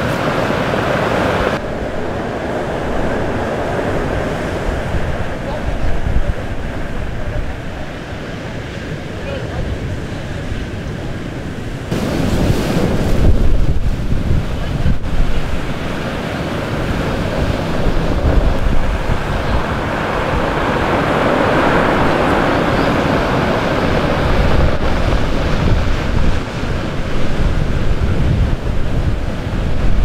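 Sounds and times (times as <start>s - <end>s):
surf washing over rocks: 0.0s - 30.0s
wind buffeting microphone: 0.0s - 30.0s.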